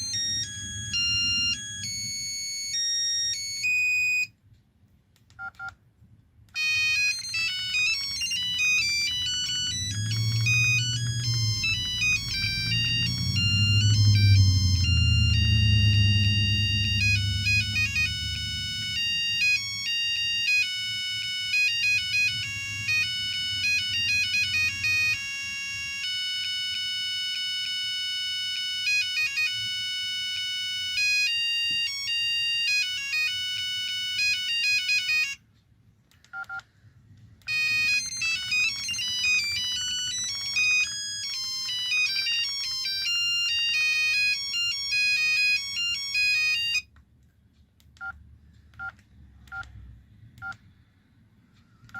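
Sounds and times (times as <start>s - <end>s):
mobile phone ringtone melody: 0.0s - 4.3s, 6.6s - 35.5s, 37.5s - 46.9s.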